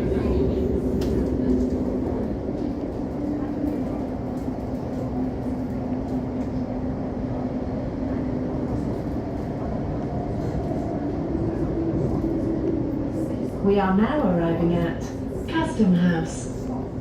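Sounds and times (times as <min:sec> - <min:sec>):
train interior rumble: 0:00.0 - 0:17.0.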